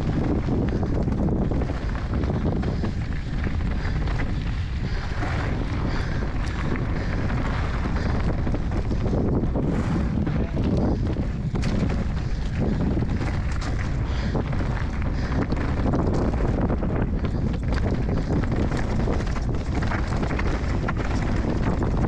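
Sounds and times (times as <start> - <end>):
bike clicks and rattles: 0.0 - 22.0
tyres rumbling over gravel: 0.0 - 22.0
wind buffeting microphone: 0.0 - 22.0.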